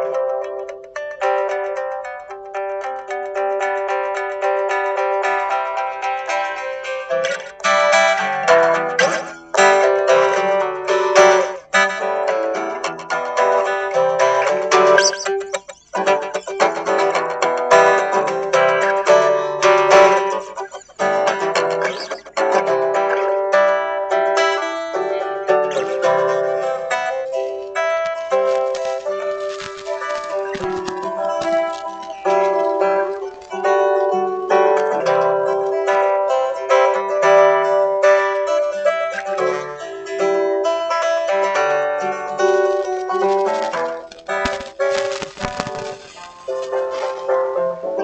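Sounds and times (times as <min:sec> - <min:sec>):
solo guitar picking and strumming: 0:00.0 - 0:48.0.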